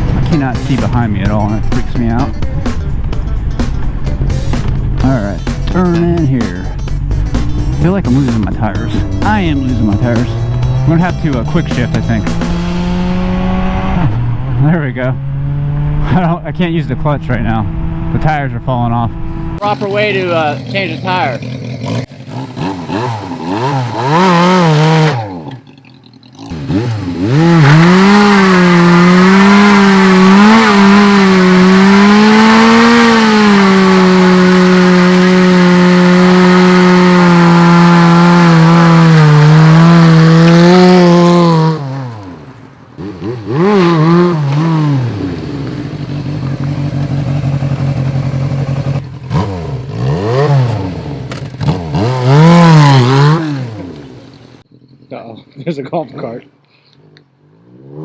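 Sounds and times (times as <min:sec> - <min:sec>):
motorcycle engine revving: 0:00.0 - 0:54.8, 0:57.0 - 0:58.0.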